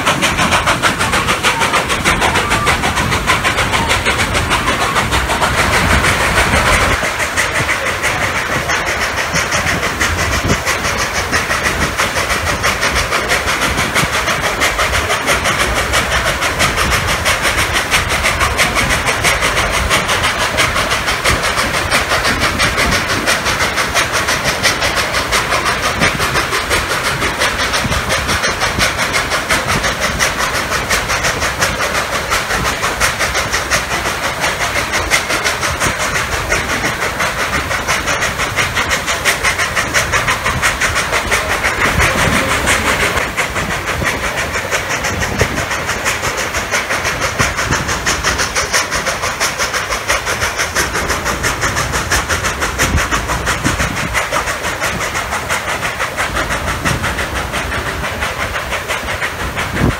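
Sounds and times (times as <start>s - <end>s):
steam locomotive working: 0.0s - 59.9s
train wheels clattering on rails: 0.0s - 59.9s.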